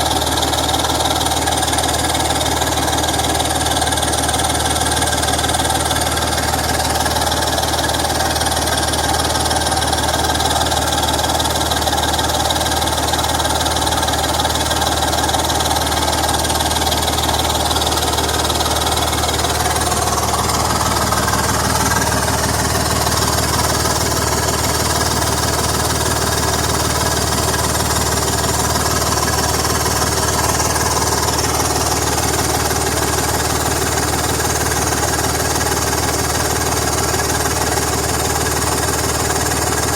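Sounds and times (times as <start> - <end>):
car engine idling: 0.0 - 39.9
exhaust leak pulsing: 0.0 - 39.9.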